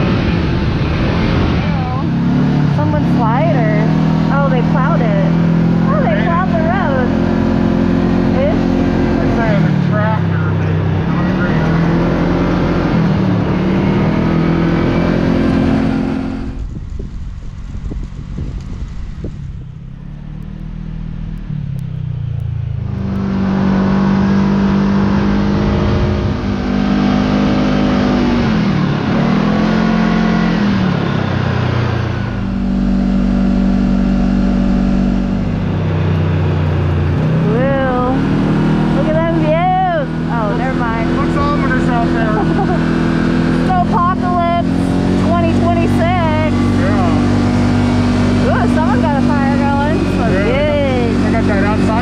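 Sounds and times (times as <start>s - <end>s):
utv engine revving: 0.0s - 52.0s.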